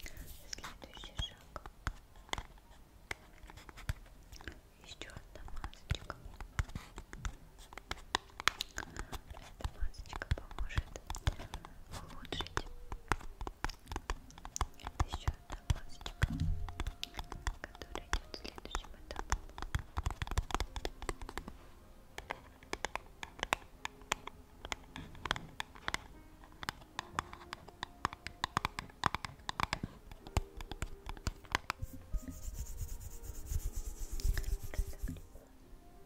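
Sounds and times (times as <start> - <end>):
hands scratching and tapping objects: 0.0 - 21.6, 22.2 - 35.3.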